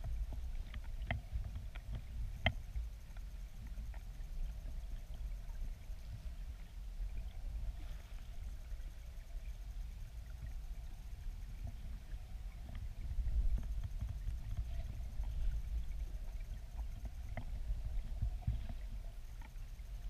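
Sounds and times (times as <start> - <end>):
muffled underwater river flow: 0.0 - 20.0.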